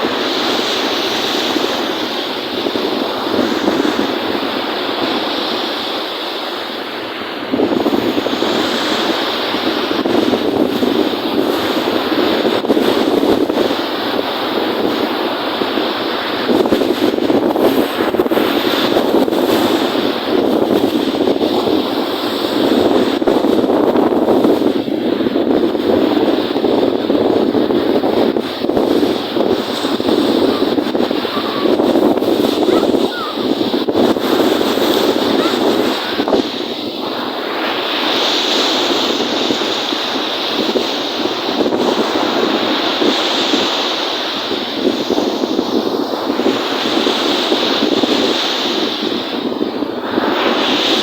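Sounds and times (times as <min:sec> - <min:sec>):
waves on a lake: 0:00.0 - 0:51.0
wind buffeting microphone: 0:00.0 - 0:51.0.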